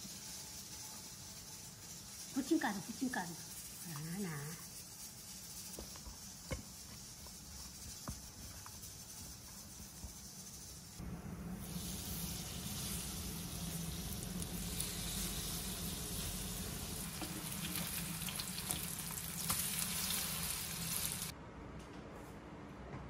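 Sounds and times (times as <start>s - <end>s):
batter sizzling in hot oil: 0.0s - 21.3s.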